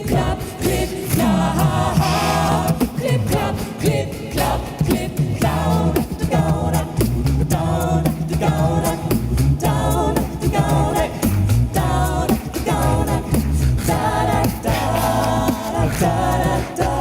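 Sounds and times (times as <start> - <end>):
low sung bass line: 0.0 - 17.0
mouth-made percussion beat: 0.0 - 17.0
vocal group singing in harmony: 0.0 - 17.0.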